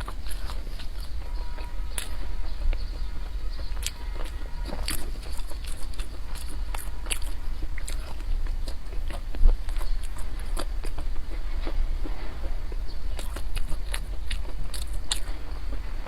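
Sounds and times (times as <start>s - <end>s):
chewing crunchy bread: 0.0s - 16.0s.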